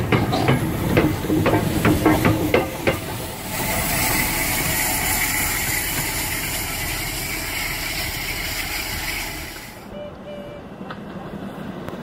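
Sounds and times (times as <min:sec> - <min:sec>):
steam train rumbling: 0:00.0 - 0:12.0.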